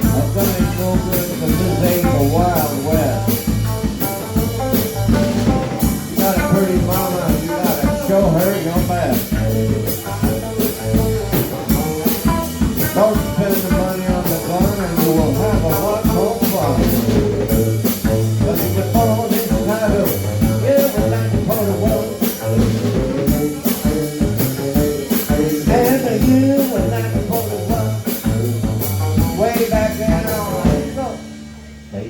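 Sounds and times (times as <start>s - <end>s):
repeating bass line: 0.0s - 31.1s
drum kit beat: 0.0s - 32.0s.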